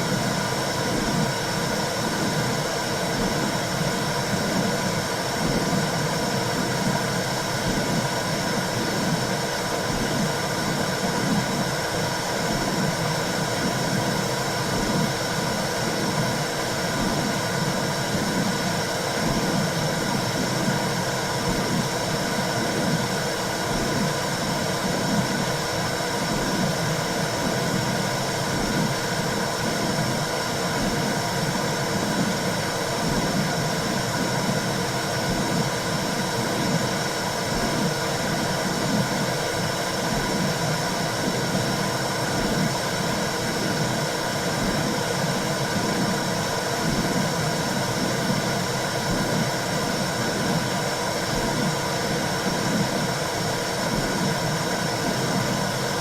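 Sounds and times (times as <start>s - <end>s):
low rhythmic whooshing pulse: 0.0s - 56.0s.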